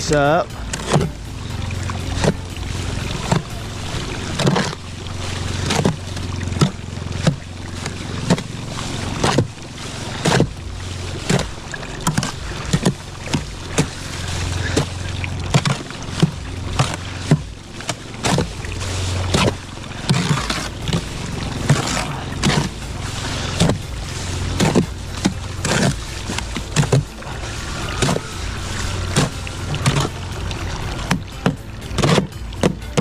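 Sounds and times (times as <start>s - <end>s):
hoe scraping wet mortar: 0.0s - 33.0s.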